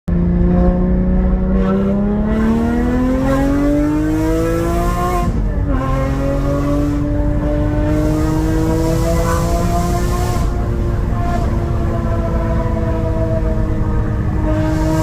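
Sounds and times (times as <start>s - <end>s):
car engine accelerating: 0.1s - 15.0s.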